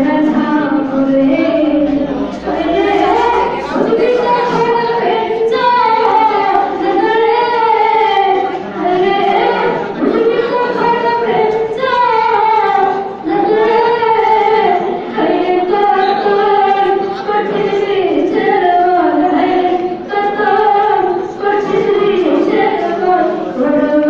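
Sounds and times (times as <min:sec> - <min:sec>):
girl singing into a microphone: 0:00.0 - 0:24.0.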